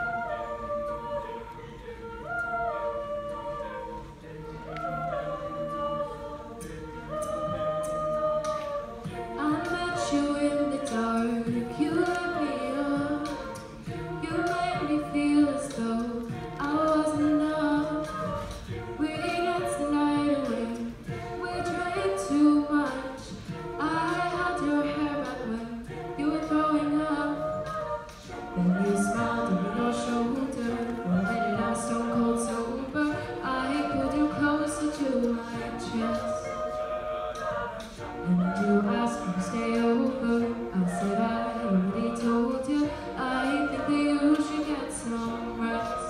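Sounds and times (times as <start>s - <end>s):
sustained backing harmonies: 0.0s - 46.0s
woman singing lead: 0.0s - 46.0s
beatboxed vocal percussion: 4.0s - 46.0s.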